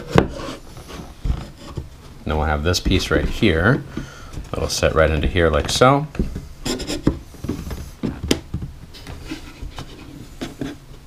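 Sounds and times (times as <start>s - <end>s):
wood scraping on wood: 0.0s - 8.2s, 8.9s - 10.8s.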